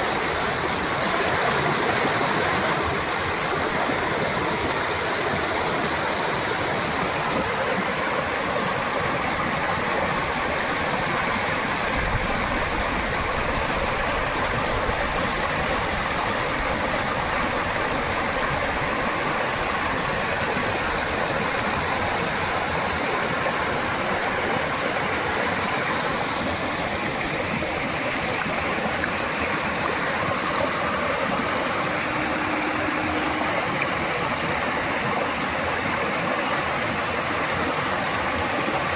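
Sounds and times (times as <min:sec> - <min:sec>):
water rushing from a dam: 0:00.0 - 0:38.9.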